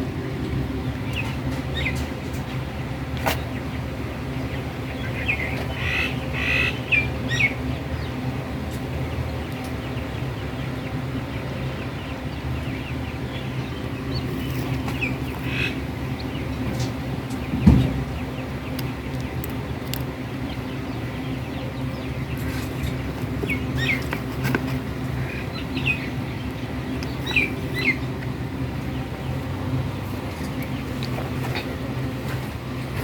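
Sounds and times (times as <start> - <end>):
birds chirping: 0.0 - 33.0
low mechanical hum: 0.0 - 33.0.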